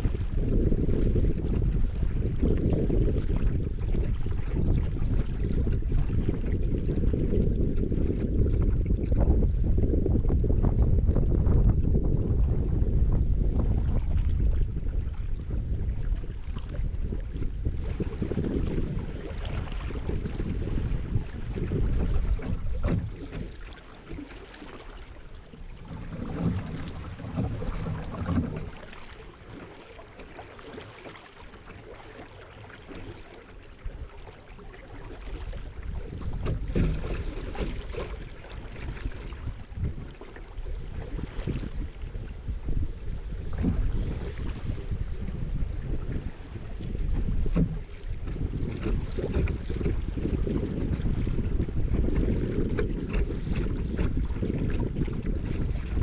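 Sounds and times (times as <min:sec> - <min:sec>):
water lapping and splashing: 0:00.0 - 0:56.0
wind rumbling on microphone: 0:00.0 - 0:56.0.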